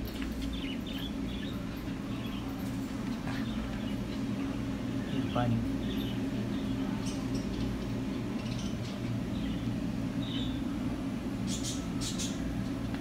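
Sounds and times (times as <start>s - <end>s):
low indoor background hum: 0.0s - 13.0s.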